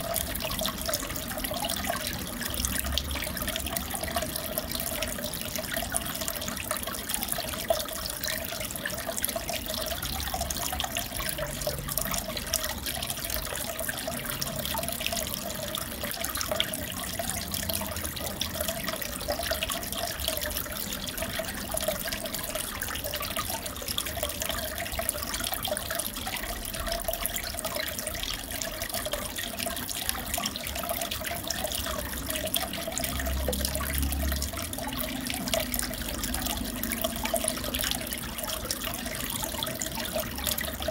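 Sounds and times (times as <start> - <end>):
aquarium water trickling and bubbling: 0.0 - 40.9.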